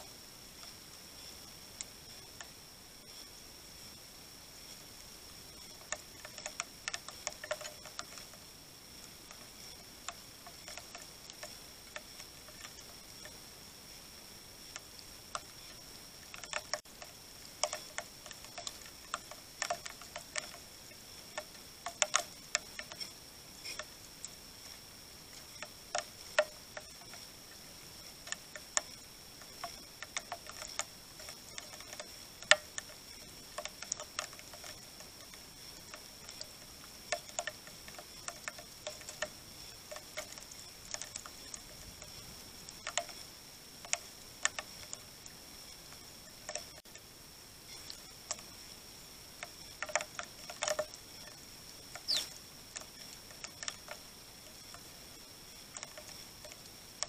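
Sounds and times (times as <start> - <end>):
sparrows pecking at grain on wood: 0.6 - 14.0, 14.6 - 47.1, 47.7 - 57.0.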